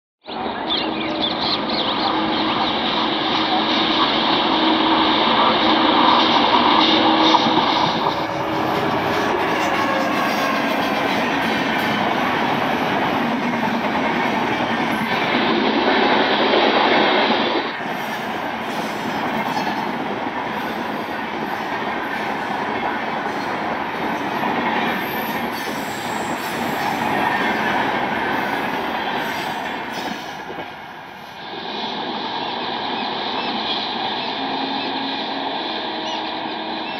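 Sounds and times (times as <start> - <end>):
train coaches rushing past: 1.6 - 36.9.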